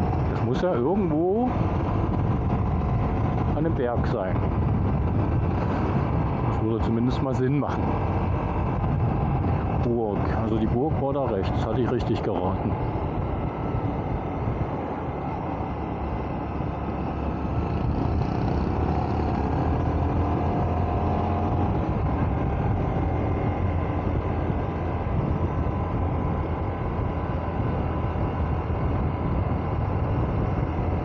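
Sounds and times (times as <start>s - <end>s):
motorcycle engine running: 0.0s - 6.6s, 7.8s - 9.8s, 12.6s - 31.0s
wind rushing on microphone: 0.0s - 31.0s.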